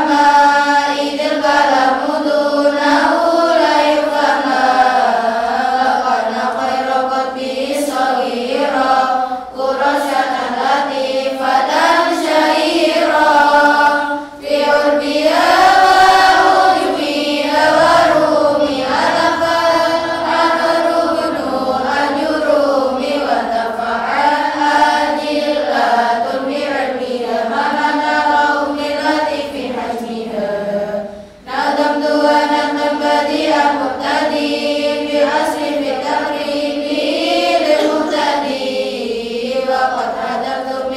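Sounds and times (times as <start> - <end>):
women chanting verse in unison: 0.0 - 40.9.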